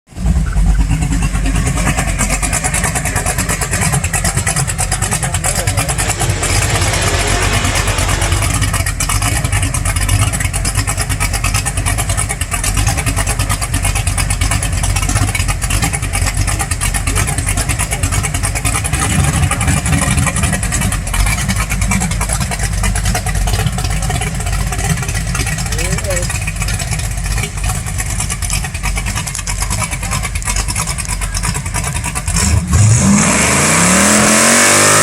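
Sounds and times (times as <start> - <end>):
car engine running loudly: 0.1 - 35.0.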